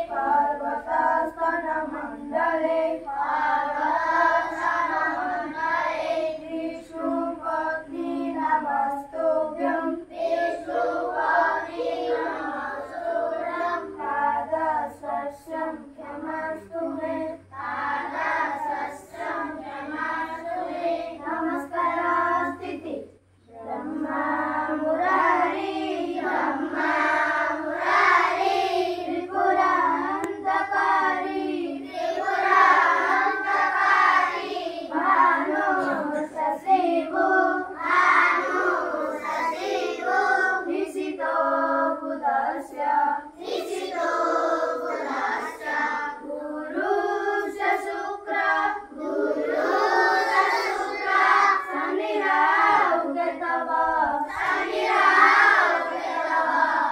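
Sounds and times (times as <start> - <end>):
children singing in unison: 0.0 - 22.8, 23.5 - 56.9.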